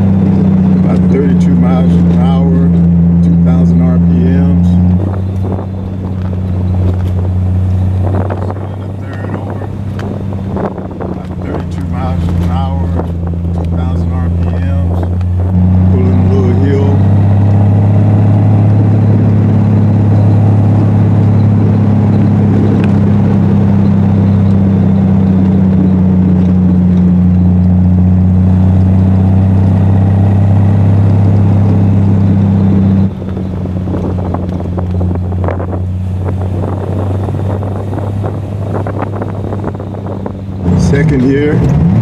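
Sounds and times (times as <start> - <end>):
car engine droning: 0.0 - 42.0
wind buffeting: 0.0 - 42.0.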